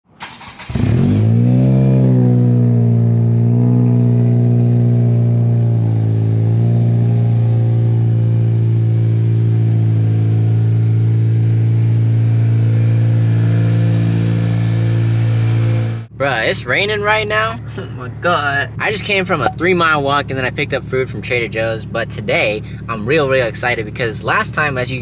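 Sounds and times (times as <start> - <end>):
car engine starting and idling: 0.0 - 25.0.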